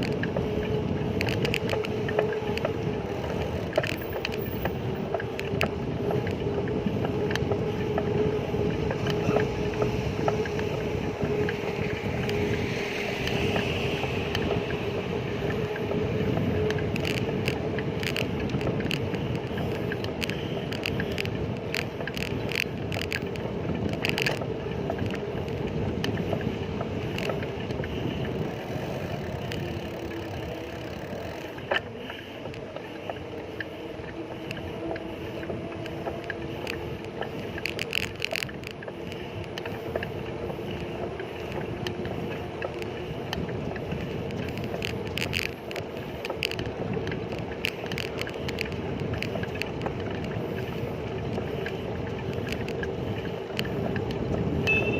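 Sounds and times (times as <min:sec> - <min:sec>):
bicycle clicks and rattles: 0:00.0 - 0:54.9
tyre and traffic rush: 0:00.0 - 0:54.9
wind buffeting microphone: 0:00.0 - 0:54.9.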